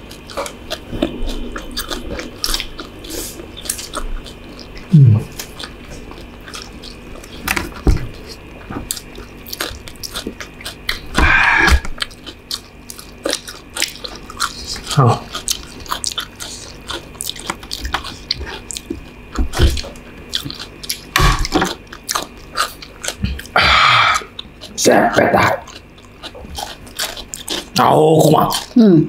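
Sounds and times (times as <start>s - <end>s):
person chewing noodles: 0.0s - 28.8s.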